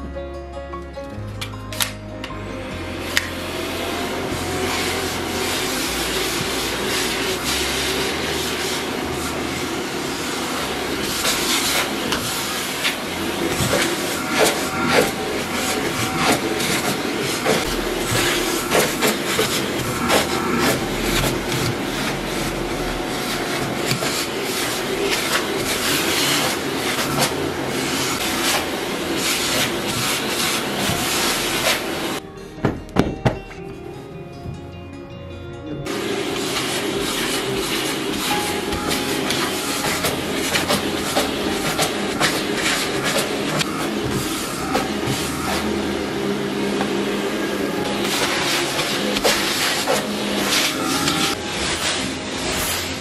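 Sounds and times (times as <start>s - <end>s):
vacuum cleaner suction: 2.7s - 32.2s, 35.9s - 53.0s.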